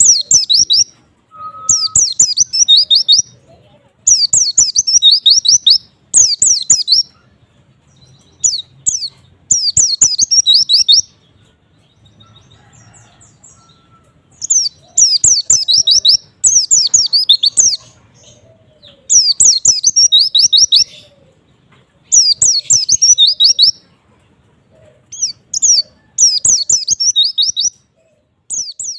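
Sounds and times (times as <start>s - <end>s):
bird twittering song: 0.0s - 24.0s, 24.8s - 28.9s.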